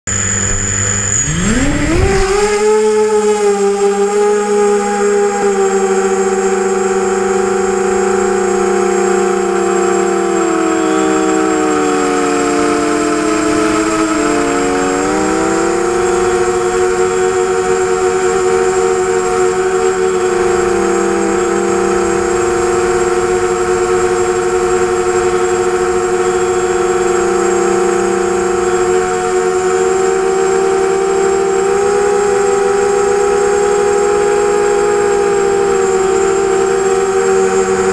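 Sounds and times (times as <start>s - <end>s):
quadcopter motors whining: 0.1s - 37.9s.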